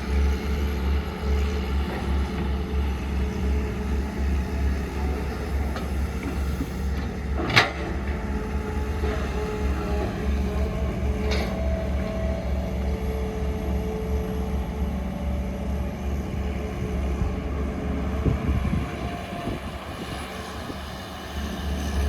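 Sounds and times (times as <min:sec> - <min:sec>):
heavy machinery engine rumbling: 0:00.0 - 0:22.0.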